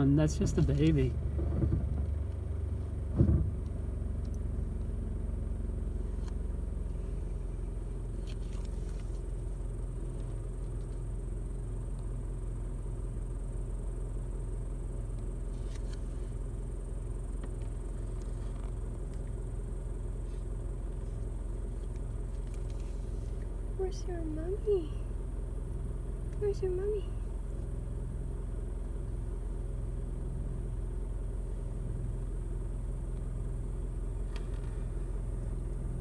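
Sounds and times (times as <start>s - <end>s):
car engine running: 0.0s - 36.0s.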